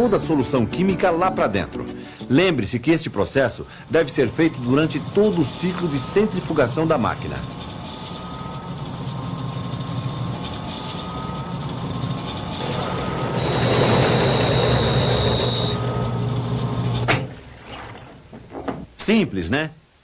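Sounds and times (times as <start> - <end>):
washing machine spin cycle hum: 0.0 - 19.0.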